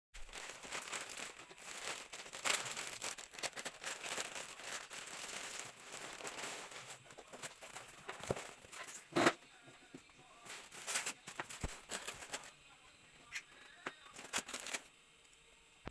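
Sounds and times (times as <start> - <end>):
plastic packaging crinkling: 0.2 - 12.6, 13.3 - 15.0.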